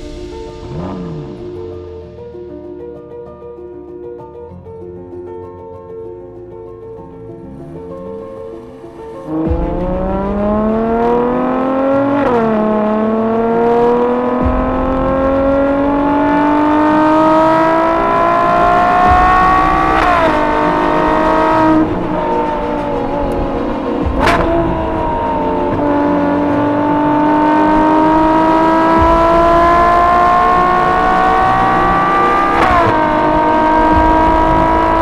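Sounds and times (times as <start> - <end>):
sports car engine accelerating: 0.0 - 1.9, 7.4 - 35.0.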